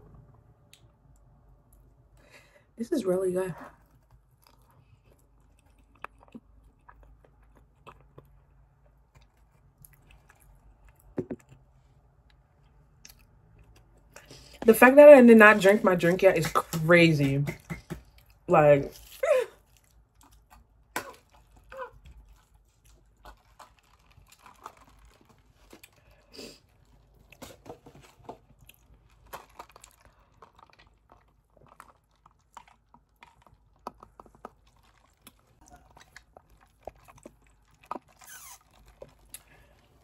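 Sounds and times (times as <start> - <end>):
person chewing: 3.8 - 14.6, 17.5 - 40.0.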